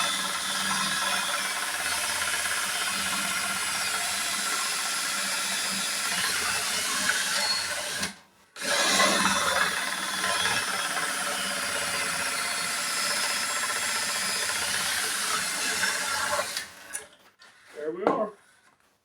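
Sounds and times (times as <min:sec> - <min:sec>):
drill boring a hole: 0:00.0 - 0:17.1.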